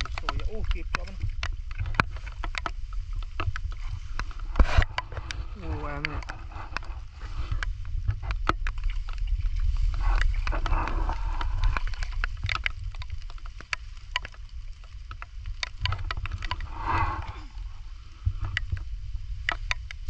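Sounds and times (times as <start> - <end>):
crab shell and claws clicking: 0.0 - 20.0
steady low rumble: 0.0 - 20.0.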